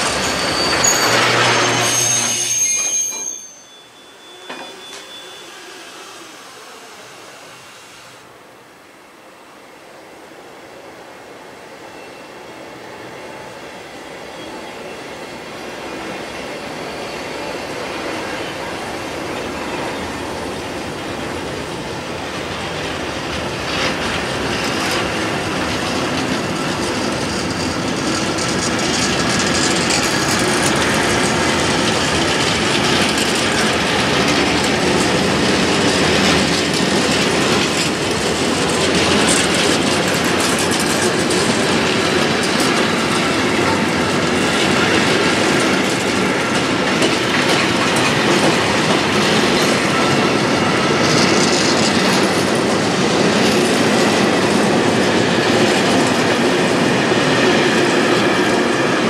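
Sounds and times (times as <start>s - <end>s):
freight train wheels on rails: 0.0s - 8.7s, 9.6s - 59.0s.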